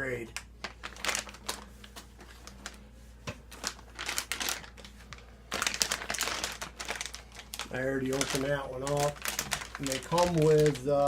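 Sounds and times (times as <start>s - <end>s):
packaging crinkling: 0.3s - 2.8s, 3.4s - 11.0s.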